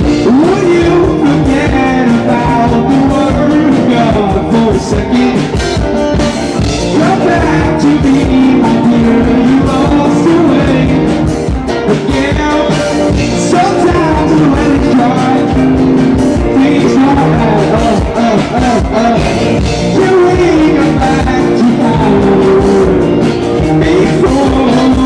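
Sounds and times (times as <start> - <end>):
person singing: 0.0 - 6.0, 6.6 - 25.0
live rock band playing: 0.0 - 25.0.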